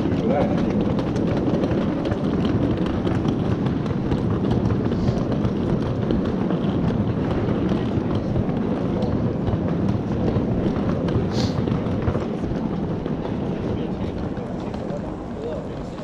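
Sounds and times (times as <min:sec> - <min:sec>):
footsteps on paving stones: 0:00.0 - 0:16.0
steady low rumble: 0:00.0 - 0:16.0.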